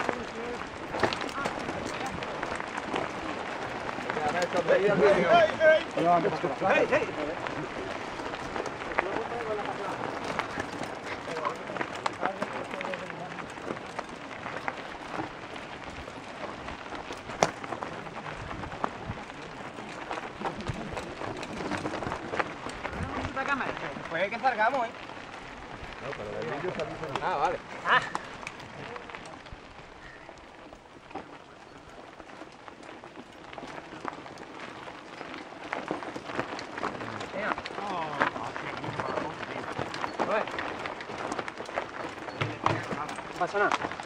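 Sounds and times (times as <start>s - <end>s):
bike tyres crunching on gravel: 0.0s - 44.0s.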